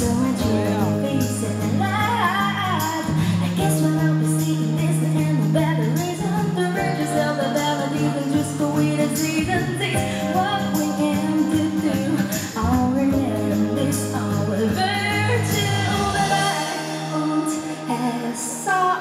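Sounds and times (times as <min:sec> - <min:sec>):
sustained bass line: 0:00.0 - 0:18.0
band playing pop music: 0:00.0 - 0:19.0
woman singing: 0:00.0 - 0:19.0.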